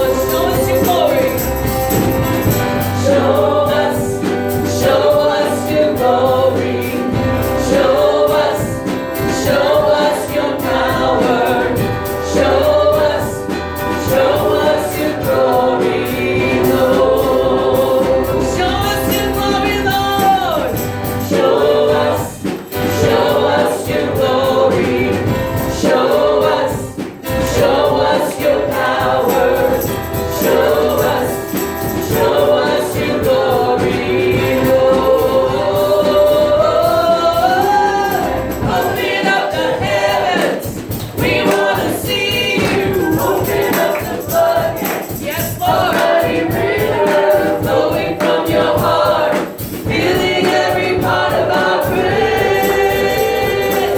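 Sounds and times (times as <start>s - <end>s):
choir singing gospel song: 0.0s - 53.9s
musical accompaniment: 0.0s - 53.9s.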